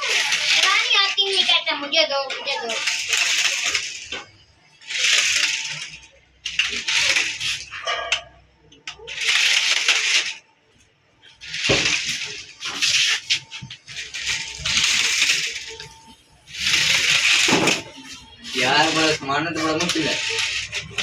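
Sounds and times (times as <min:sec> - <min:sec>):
toy car motor whirring: 0:00.0 - 0:07.8, 0:08.9 - 0:10.4, 0:11.3 - 0:21.0.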